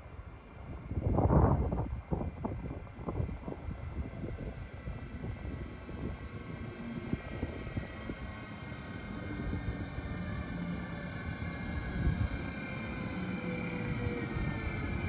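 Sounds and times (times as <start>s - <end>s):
electric locomotive whine: 0.0s - 15.0s.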